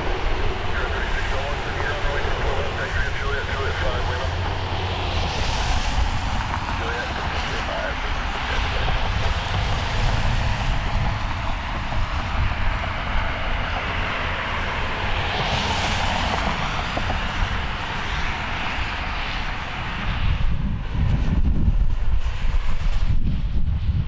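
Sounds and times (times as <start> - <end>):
jet engines passing: 0.0 - 24.0.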